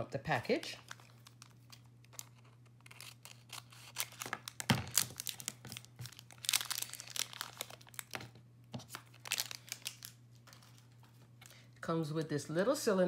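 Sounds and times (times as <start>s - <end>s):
plastic bag crinkling: 0.5s - 11.6s.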